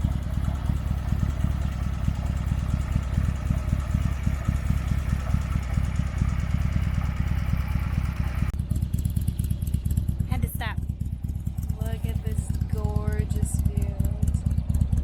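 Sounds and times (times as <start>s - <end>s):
motorcycle exhaust pulsing: 0.0s - 15.0s
wind and road noise: 0.0s - 15.0s.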